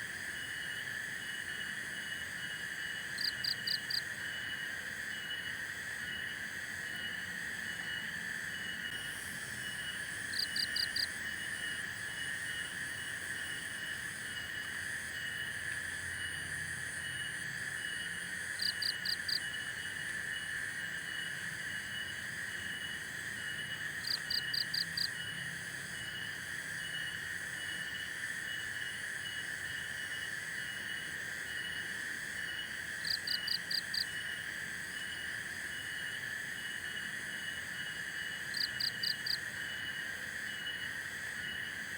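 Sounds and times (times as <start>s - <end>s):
chorus of insects and frogs: 0.0s - 41.9s.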